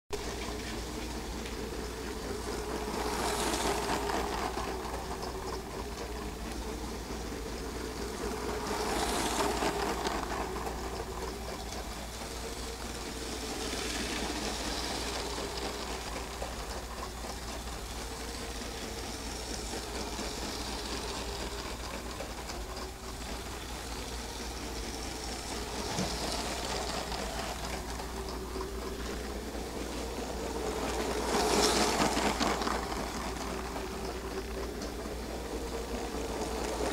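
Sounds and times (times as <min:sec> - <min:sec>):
toy train motor whirring: 0:00.2 - 0:36.9.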